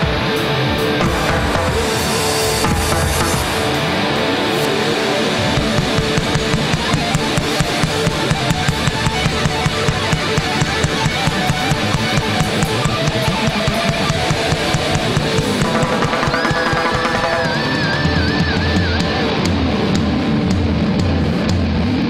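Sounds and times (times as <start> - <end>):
drum kit beat: 0.0 - 22.0
electric guitar: 0.0 - 22.0
live rock band playing: 0.0 - 22.0
high wavering lead note: 1.1 - 19.2.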